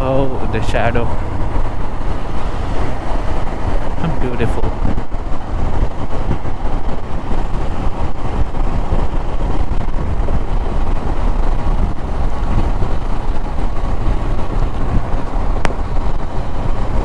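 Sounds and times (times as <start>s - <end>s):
motorcycle engine running: 0.0s - 17.0s
wind on microphone: 0.0s - 17.0s.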